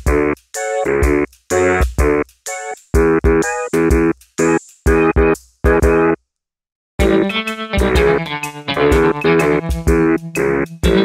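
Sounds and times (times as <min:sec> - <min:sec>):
instrumental background music: 0:00.0 - 0:06.3, 0:07.0 - 0:11.0.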